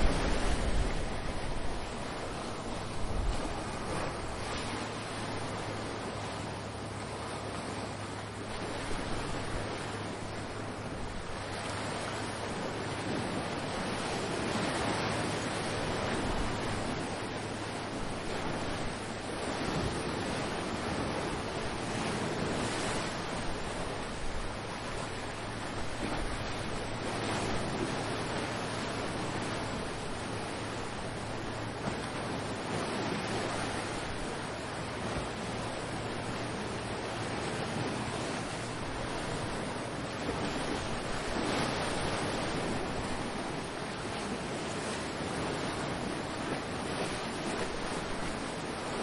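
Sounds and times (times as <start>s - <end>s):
ocean waves on shore: 0.0s - 49.0s
wind buffeting microphone: 0.0s - 49.0s.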